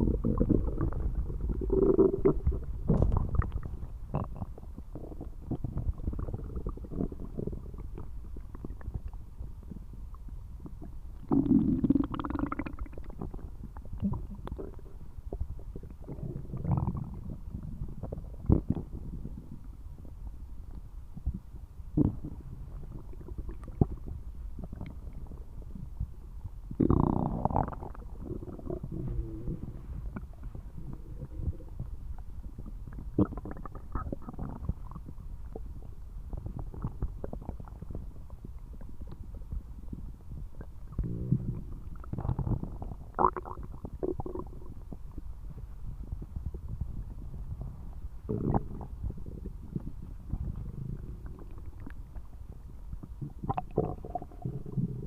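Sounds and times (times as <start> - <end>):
low bubbling: 0.0 - 55.0
stomach growling: 0.0 - 55.0.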